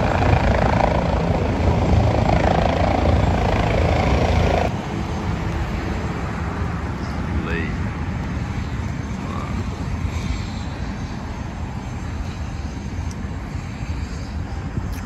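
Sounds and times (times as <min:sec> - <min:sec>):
helicopter engine and rotor rumble: 0:00.0 - 0:15.0.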